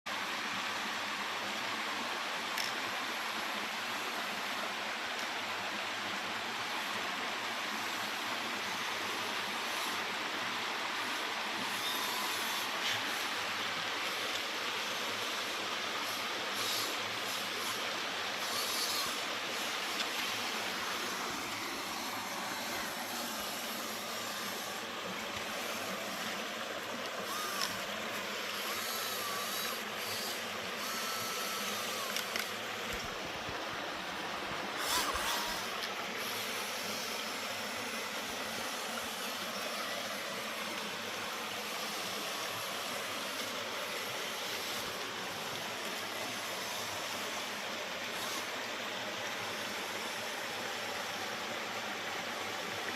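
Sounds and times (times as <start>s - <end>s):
creek water rushing: 0.1s - 52.9s
small electric motor whining: 2.4s - 52.9s.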